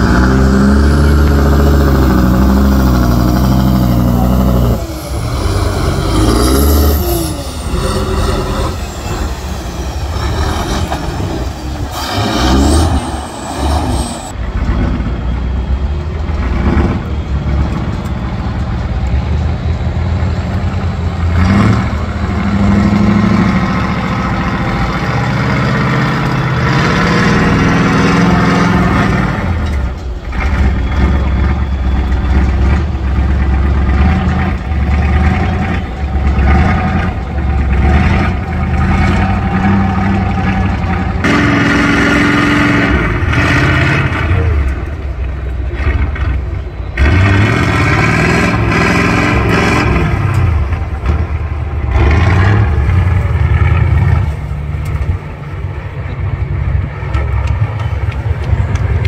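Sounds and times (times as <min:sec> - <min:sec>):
truck diesel engine revving: 0:00.0 - 0:59.0.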